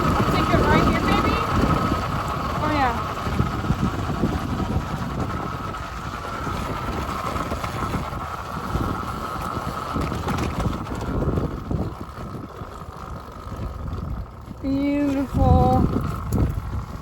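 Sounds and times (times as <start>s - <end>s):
electric motor high whine: 0.0s - 17.0s
wind buffeting microphone: 0.0s - 17.0s.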